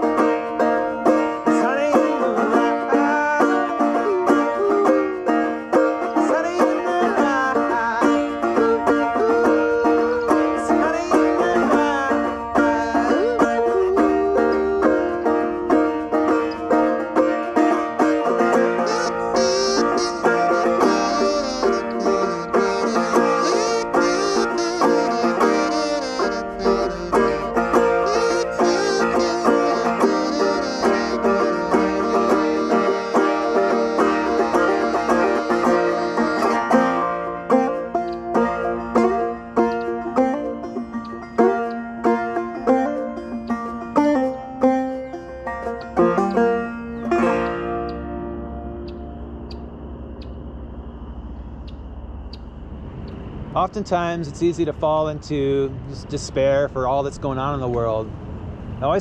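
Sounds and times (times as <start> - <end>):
banjo picking: 0.0 - 49.3.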